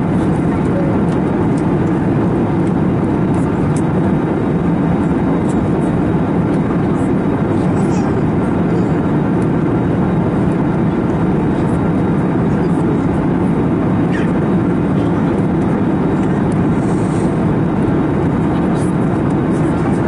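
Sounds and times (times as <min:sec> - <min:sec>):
airplane cabin roar: 0:00.0 - 0:20.0.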